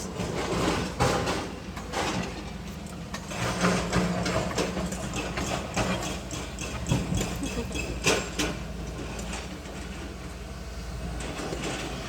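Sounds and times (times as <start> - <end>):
heavy engine running: 0.0 - 12.0
irregular knocks and clatter: 0.2 - 10.2.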